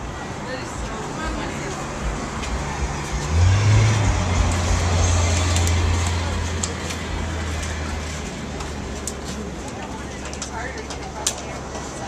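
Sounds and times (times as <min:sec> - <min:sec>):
road traffic noise: 0:00.0 - 0:12.0
vehicle engine humming: 0:00.0 - 0:12.0.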